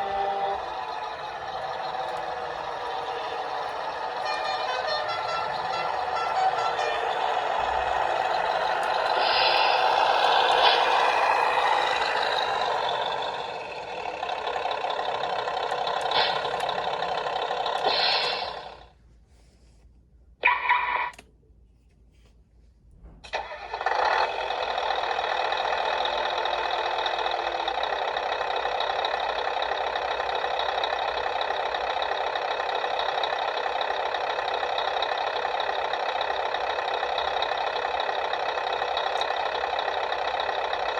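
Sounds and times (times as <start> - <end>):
engine idling: 0.0 - 19.0, 23.2 - 40.9
truck engine sound from speaker: 0.0 - 19.0, 23.0 - 40.9.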